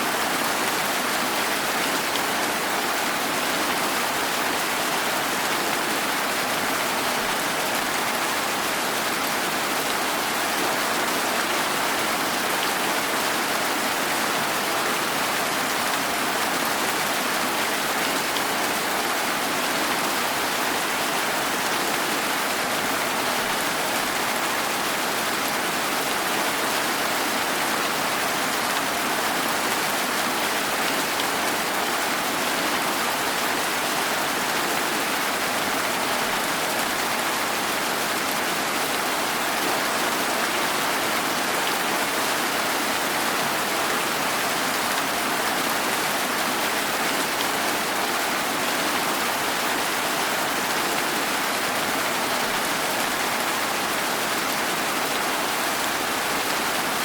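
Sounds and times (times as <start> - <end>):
rain on surfaces: 0.0 - 57.0.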